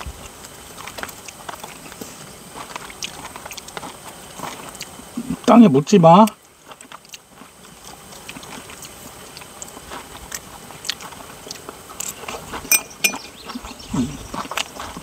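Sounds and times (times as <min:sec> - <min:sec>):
chewing crisp food: 0:00.0 - 0:05.5, 0:06.2 - 0:15.0.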